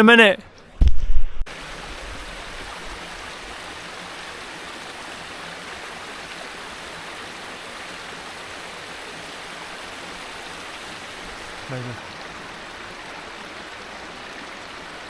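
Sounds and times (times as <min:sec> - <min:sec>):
stream rushing: 0:00.8 - 0:15.0.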